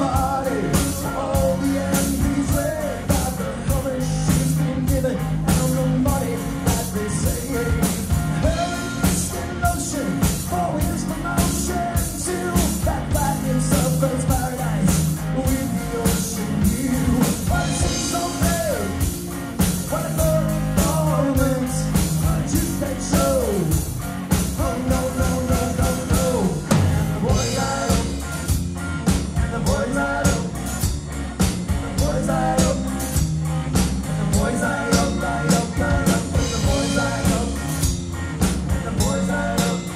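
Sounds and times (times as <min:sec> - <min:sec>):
person singing lead vocal: 0:00.0 - 0:28.6, 0:29.4 - 0:30.9, 0:31.9 - 0:33.2, 0:34.0 - 0:38.0, 0:38.7 - 0:39.9
bass guitar: 0:00.0 - 0:39.9
drum kit beat: 0:00.0 - 0:39.9
electric guitar: 0:00.0 - 0:39.9.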